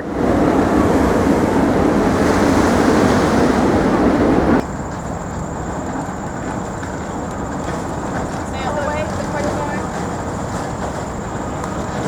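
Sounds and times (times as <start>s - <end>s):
rushing outdoor noise: 0.0s - 12.0s.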